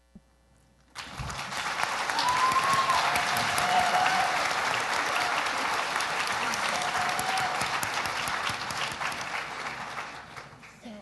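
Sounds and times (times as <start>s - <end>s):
audience applauding: 1.0s - 10.8s.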